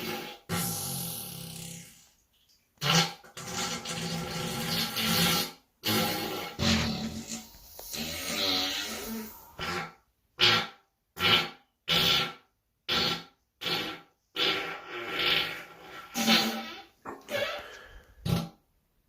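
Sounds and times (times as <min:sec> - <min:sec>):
person farting: 0:00.0 - 0:02.1, 0:02.8 - 0:18.7.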